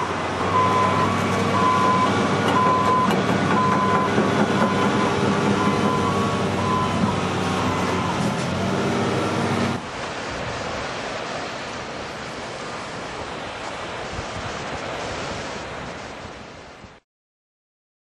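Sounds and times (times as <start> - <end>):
heavy equipment engine running: 0.0 - 16.4
ocean surf: 0.0 - 17.0
wind noise on microphone: 0.0 - 17.0.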